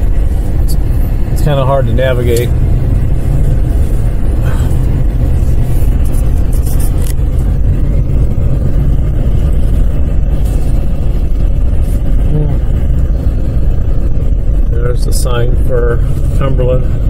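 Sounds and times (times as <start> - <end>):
car engine and tyres on snow: 0.0 - 17.0.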